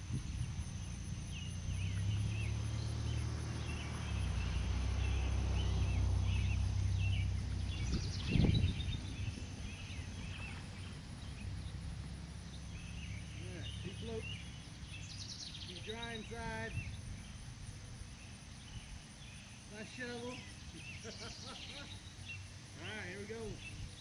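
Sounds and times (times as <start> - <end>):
low steady rumble: 0.0 - 24.0
small birds chirping: 0.0 - 24.0.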